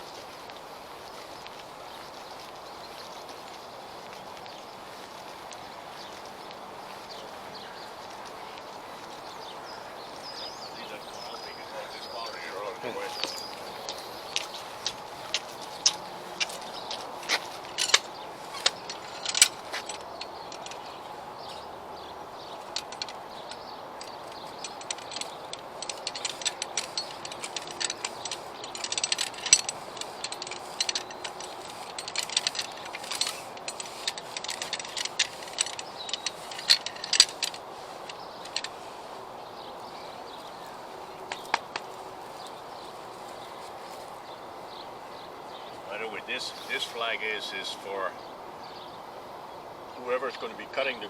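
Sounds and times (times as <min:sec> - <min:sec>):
outdoor background: 0:00.0 - 0:51.0.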